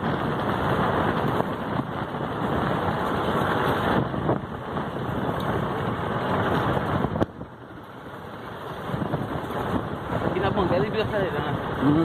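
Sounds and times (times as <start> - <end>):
vehicle engine and road noise: 0.0 - 12.0
wind buffeting microphone: 0.0 - 12.0.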